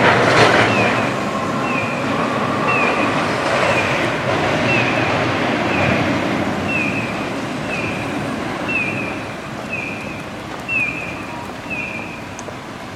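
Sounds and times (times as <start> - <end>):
tram rumbling: 0.0 - 12.9.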